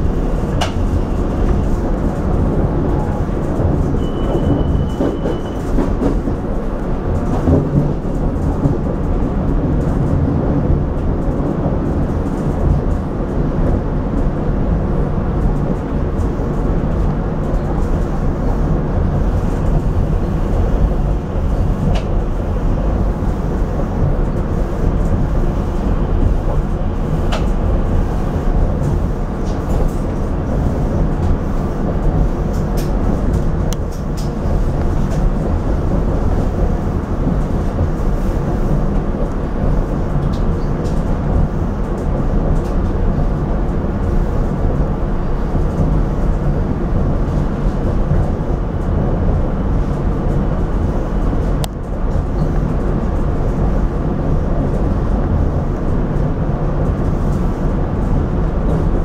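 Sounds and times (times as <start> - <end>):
rail car rumbling: 0.0 - 59.0.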